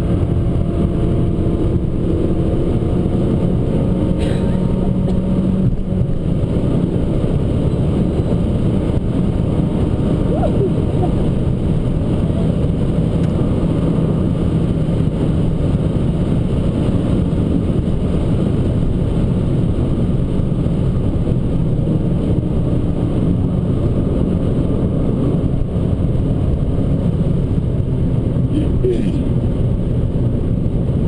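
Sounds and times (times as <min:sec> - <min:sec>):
car engine running: 0:00.0 - 0:31.0
road and tyre rumble: 0:00.0 - 0:31.0.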